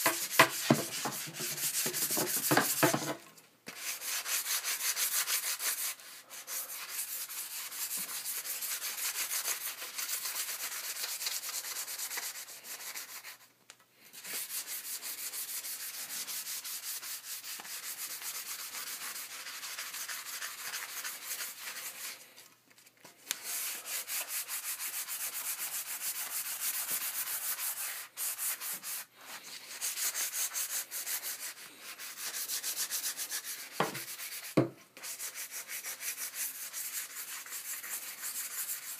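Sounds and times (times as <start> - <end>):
sandpaper rubbing: 0.0 - 13.4, 14.1 - 22.3, 23.4 - 38.9.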